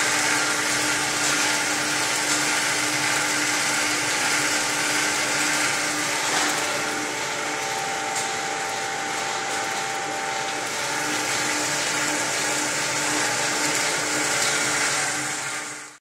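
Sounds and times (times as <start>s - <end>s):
machine belts and rollers whirring: 0.0s - 16.0s.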